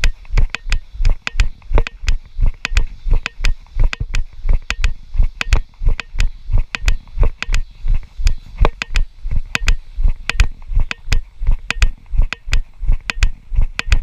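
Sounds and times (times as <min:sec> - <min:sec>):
camera housing knocking with strides: 0:00.0 - 0:14.0.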